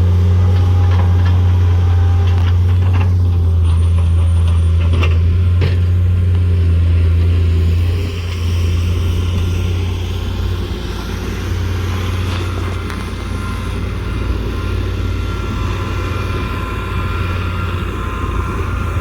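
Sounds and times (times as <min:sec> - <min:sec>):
large engine humming: 0:00.0 - 0:19.0.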